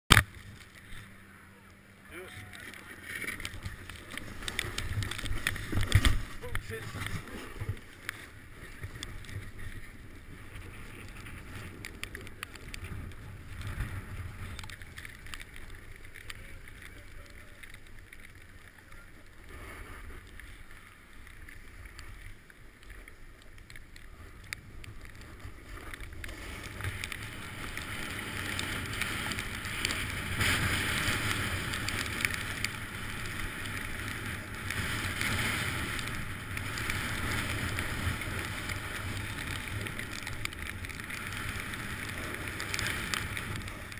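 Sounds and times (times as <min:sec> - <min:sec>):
snowboard scraping packed snow: 0:02.8 - 0:43.9.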